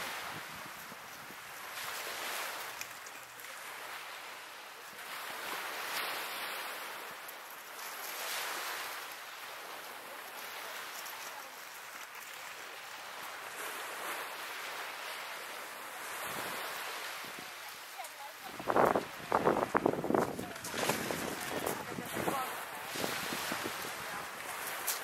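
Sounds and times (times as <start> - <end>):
small waves on shingle beach: 0.0 - 25.0.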